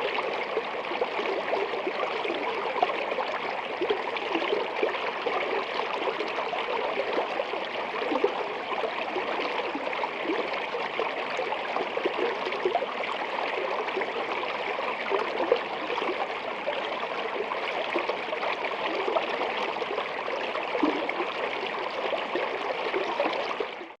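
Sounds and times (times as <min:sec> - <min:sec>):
running water with gurgles: 0:00.0 - 0:24.0.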